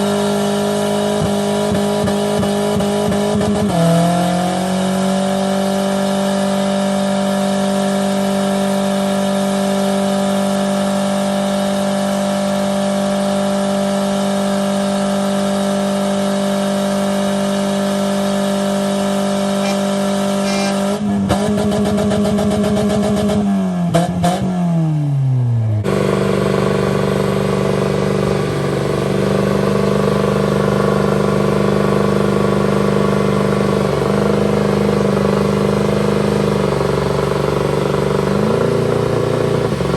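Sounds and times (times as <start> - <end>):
truck engine revving high: 0.0 - 39.9.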